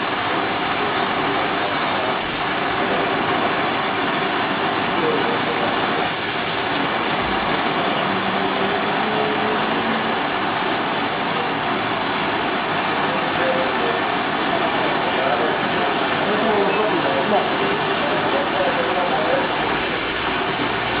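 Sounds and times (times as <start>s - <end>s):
torch flame hissing: 0.0s - 21.0s.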